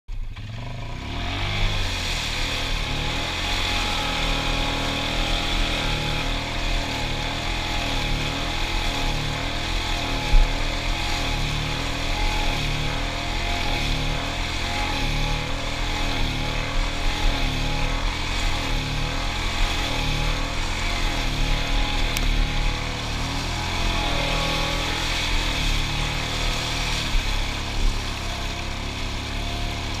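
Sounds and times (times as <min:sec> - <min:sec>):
quad bike engine revving: 0:00.1 - 0:30.0
wheels spinning in mud: 0:00.1 - 0:30.0.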